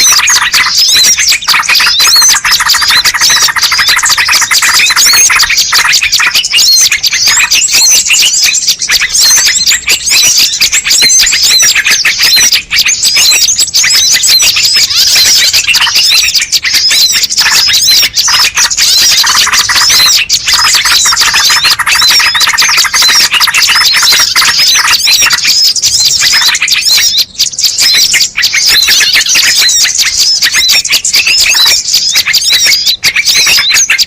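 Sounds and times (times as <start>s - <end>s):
small birds chirping and twittering: 0.0s - 34.0s.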